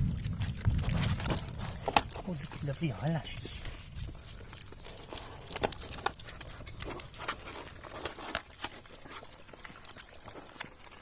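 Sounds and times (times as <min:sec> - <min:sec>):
pigs crunching and chomping food: 0:00.0 - 0:11.0.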